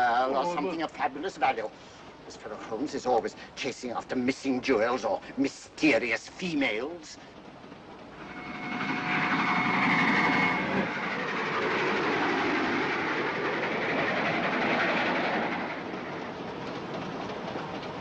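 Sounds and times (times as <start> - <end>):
train rumbling and clattering: 0.0 - 18.0.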